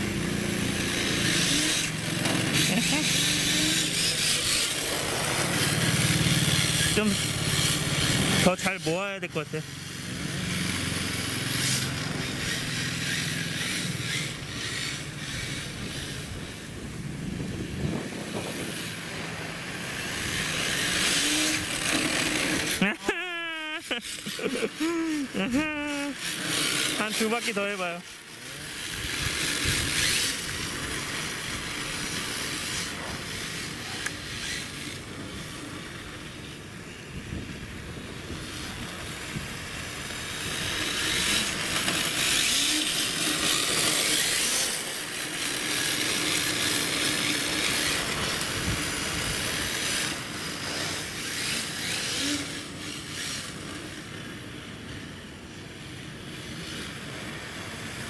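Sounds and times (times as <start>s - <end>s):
faint motor whine: 0.0s - 23.0s, 23.6s - 58.0s.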